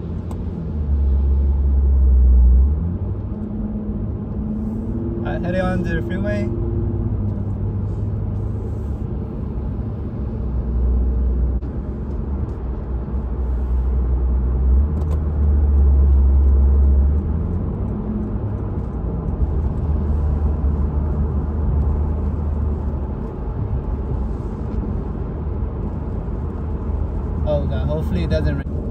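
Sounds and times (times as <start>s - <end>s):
car engine and tyres rumble: 0.0s - 28.9s.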